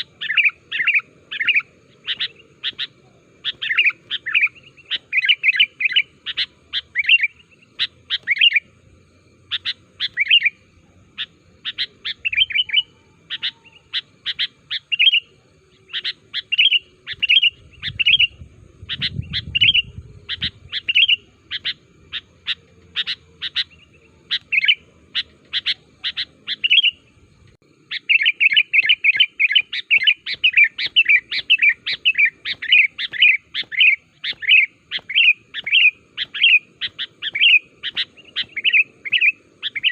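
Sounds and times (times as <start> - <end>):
bird chirping and chattering: 0.0 - 8.8, 9.4 - 27.2, 27.8 - 39.9.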